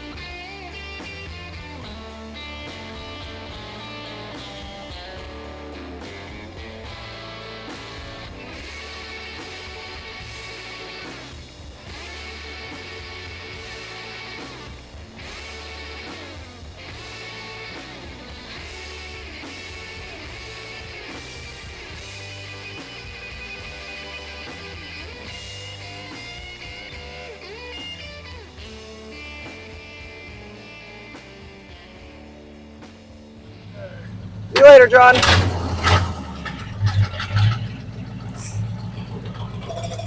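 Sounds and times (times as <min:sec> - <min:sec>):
instrumental rock music: 0:00.0 - 0:40.0.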